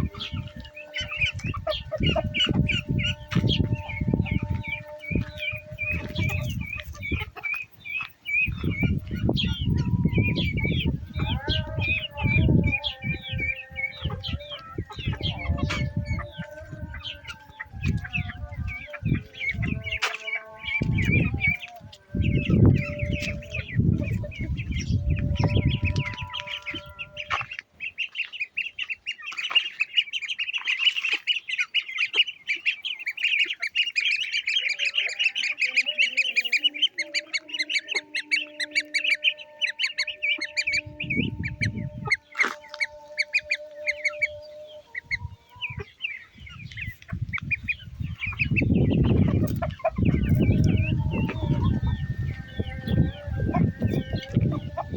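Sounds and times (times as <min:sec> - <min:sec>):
birds chirping and calling: 0:00.0 - 0:54.9.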